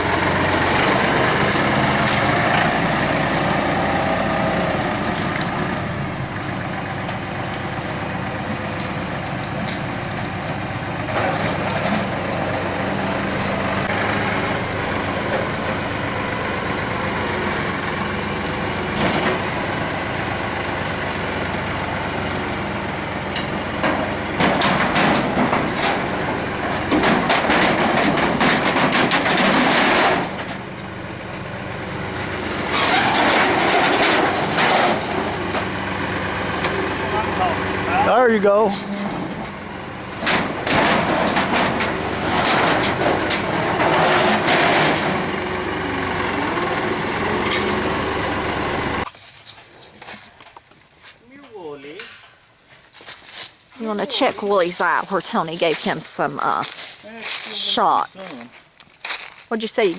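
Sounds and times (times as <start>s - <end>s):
tractor engine running: 0.0s - 49.2s, 52.4s - 59.9s.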